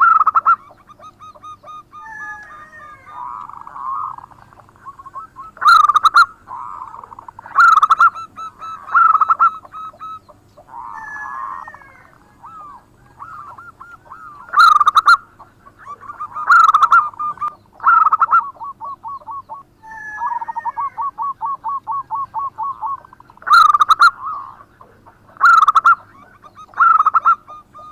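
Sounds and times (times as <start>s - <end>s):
dove cooing: 0.0s - 27.9s.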